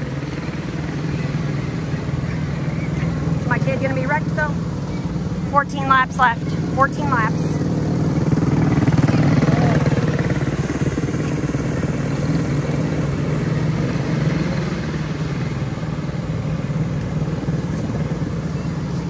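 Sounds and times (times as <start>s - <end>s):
small race car engines droning: 0.0s - 19.0s.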